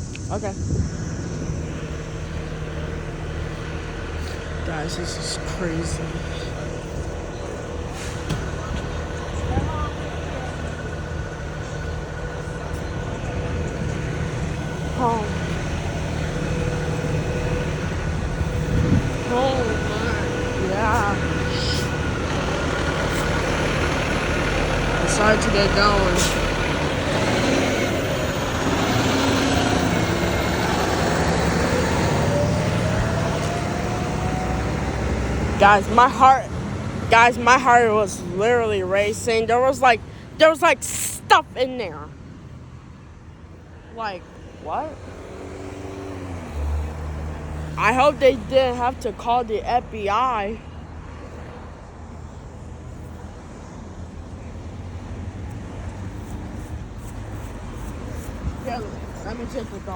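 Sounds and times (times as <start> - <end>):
street traffic: 0.0 - 59.9
vehicle engine running: 0.0 - 59.9.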